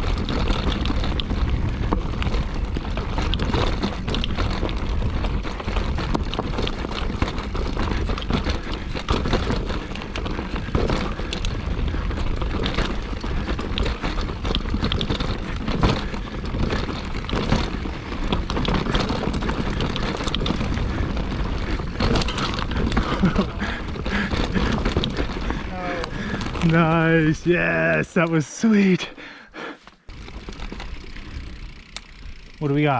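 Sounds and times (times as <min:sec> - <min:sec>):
wind buffeting microphone: 0:00.0 - 0:27.4
mountain bike rattling: 0:00.0 - 0:32.9.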